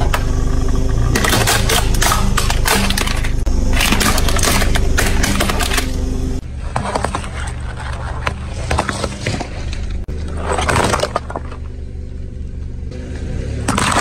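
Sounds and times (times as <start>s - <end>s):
car engine running low: 0.0s - 14.0s
tyre crushing objects: 1.1s - 12.0s, 13.2s - 14.0s.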